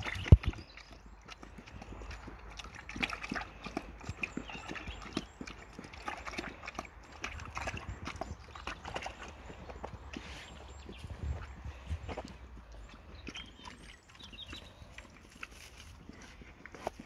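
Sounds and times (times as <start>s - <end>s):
pigs making clicks and knocks: 0.0s - 17.0s.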